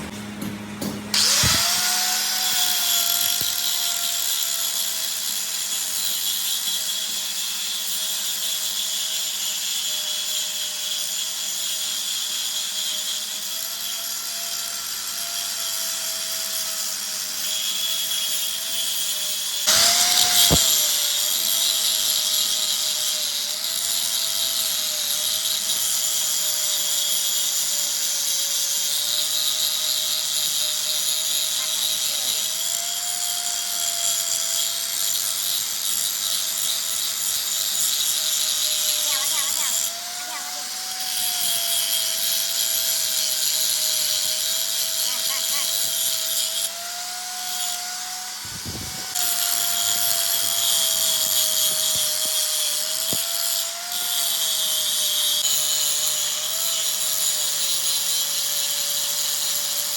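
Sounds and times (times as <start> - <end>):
power tool motor whining: 1.1 - 59.9.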